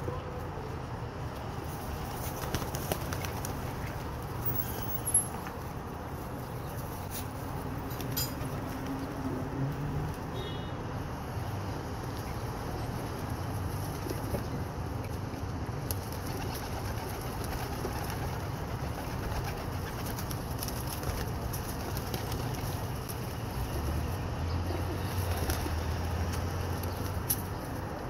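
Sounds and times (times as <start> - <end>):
steady background noise: 0.0 - 28.0.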